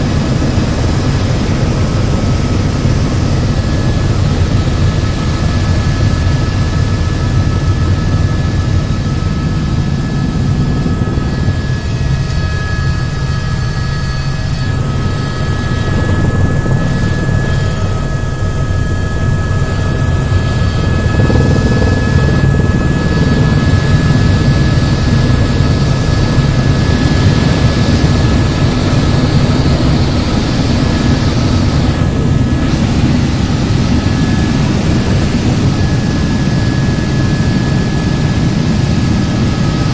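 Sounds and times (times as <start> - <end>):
helicopter rotor and engine: 0.0 - 39.9
high-pitched whine: 0.0 - 39.9.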